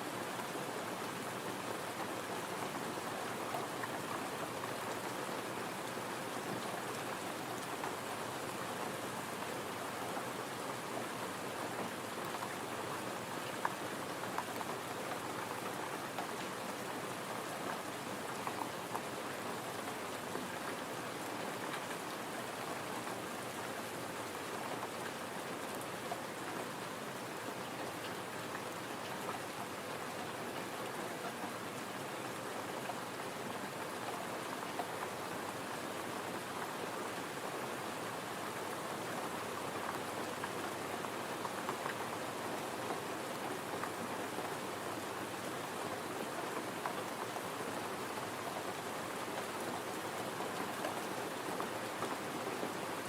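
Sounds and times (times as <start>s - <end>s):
gentle rain pattering: 0.0s - 53.0s.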